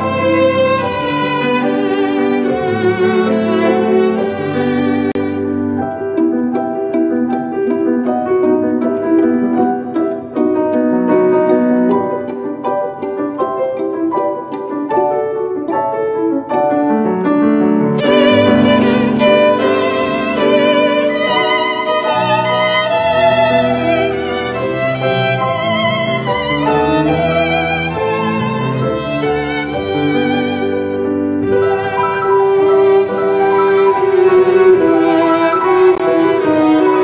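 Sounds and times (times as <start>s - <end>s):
piano repeated notes: 0.0s - 37.0s
violin melody: 0.0s - 37.0s.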